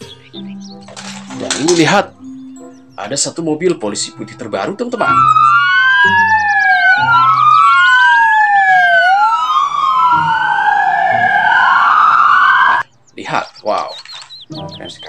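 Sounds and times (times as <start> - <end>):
emergency sirens wailing: 0.0 - 12.9.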